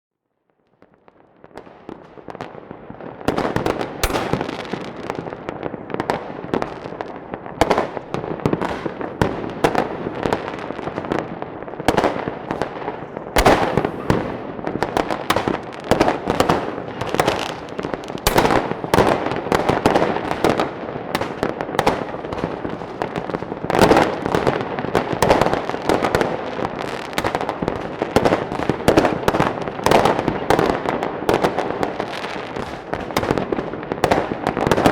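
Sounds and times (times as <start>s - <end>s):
firecrackers crackling: 0.8s - 34.9s
loud firework bangs: 1.6s - 34.9s.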